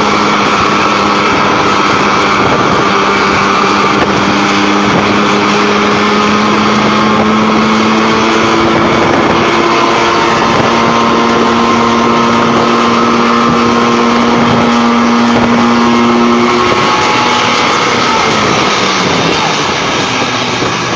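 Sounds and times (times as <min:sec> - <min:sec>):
engine humming steadily: 0:00.0 - 0:20.9.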